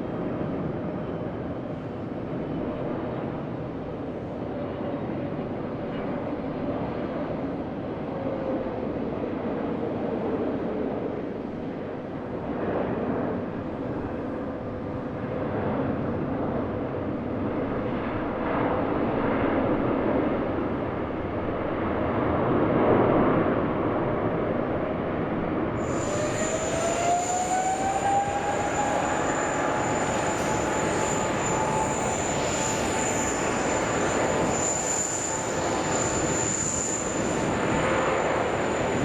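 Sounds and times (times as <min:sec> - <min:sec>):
jet airliner engines rumbling: 0:00.0 - 0:39.0.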